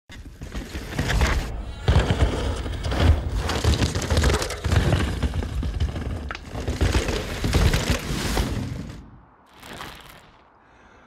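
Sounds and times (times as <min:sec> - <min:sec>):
bike tyres skidding over stones: 0:00.1 - 0:10.5
wheels thudding on rocks: 0:00.2 - 0:10.2.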